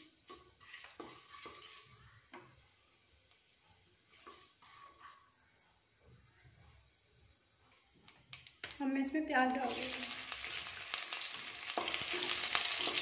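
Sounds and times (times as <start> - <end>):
seeds sizzling in oil: 0.0 - 13.0.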